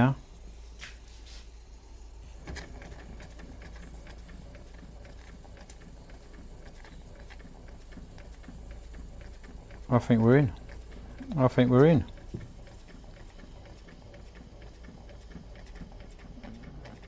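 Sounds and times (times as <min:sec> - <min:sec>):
steady low hum: 0:00.0 - 0:17.0
model steam engine ticking: 0:01.6 - 0:17.0.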